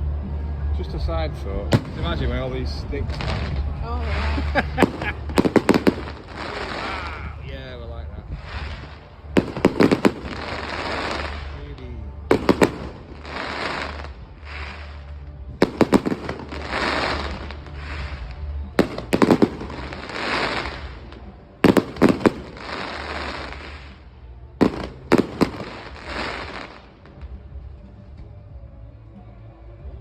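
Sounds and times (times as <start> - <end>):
fireworks crackling: 1.6 - 28.0
fireworks bangs: 1.7 - 27.4.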